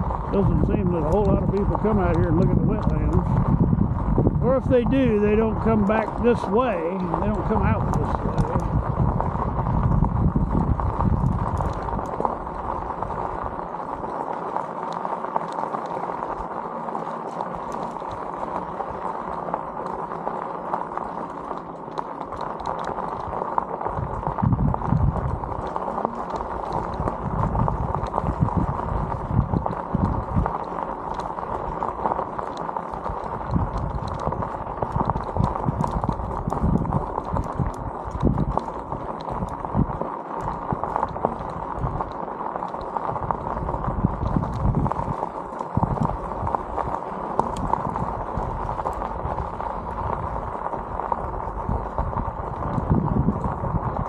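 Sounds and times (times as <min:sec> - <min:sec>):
wheels and frame rattling: 0:00.0 - 0:54.0.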